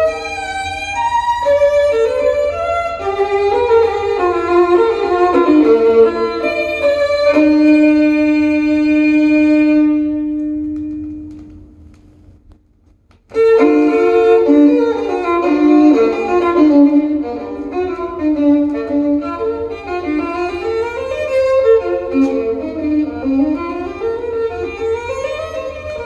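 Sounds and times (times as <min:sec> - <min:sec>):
violin music from loudspeakers: 0:00.0 - 0:12.0, 0:13.3 - 0:26.0.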